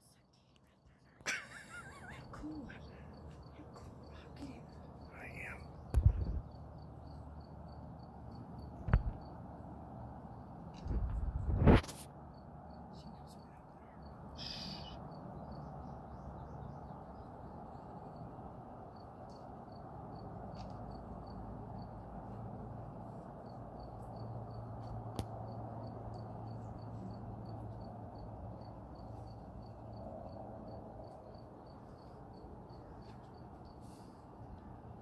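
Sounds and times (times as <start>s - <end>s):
insect chirping: 0.0s - 35.0s
low outdoor hum: 0.0s - 35.0s.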